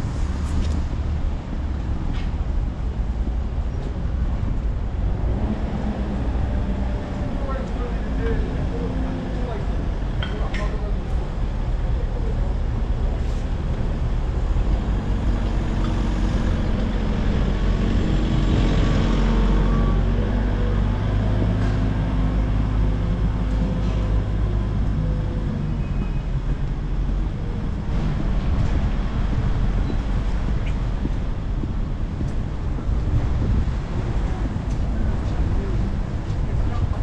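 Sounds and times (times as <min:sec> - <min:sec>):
city road traffic: 0:00.0 - 0:37.0
heavy vehicle engine rumble: 0:00.0 - 0:37.0.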